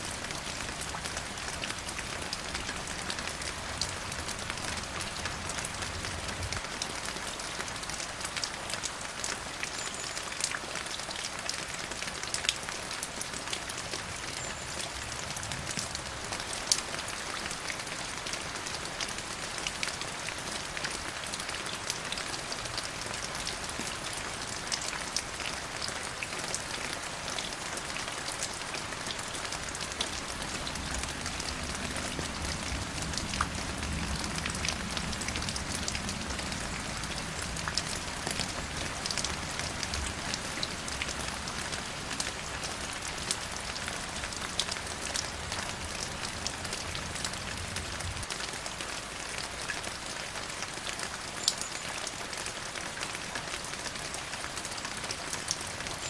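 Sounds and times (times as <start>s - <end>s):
rain pattering on hard surface: 0.0s - 56.0s.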